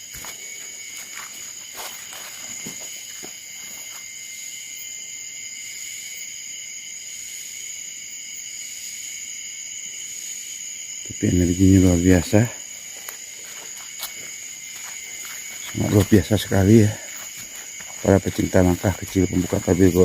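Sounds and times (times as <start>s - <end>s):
cicadas shrilling: 0.0s - 20.0s.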